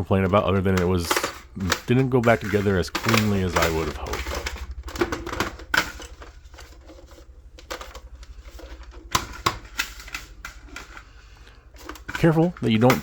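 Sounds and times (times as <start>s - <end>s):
plastic clicks and clacks: 0.0s - 13.0s.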